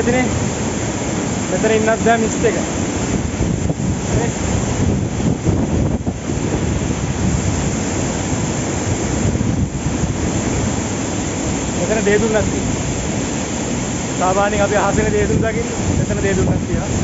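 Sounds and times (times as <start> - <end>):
waterfall rushing: 0.0 - 17.0
wind buffeting microphone: 0.0 - 17.0.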